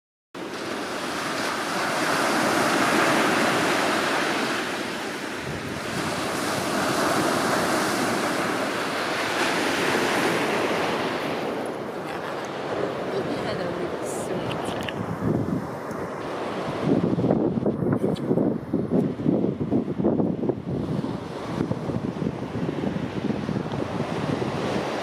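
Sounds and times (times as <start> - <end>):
sea surf washing onto beach: 0.4 - 25.0.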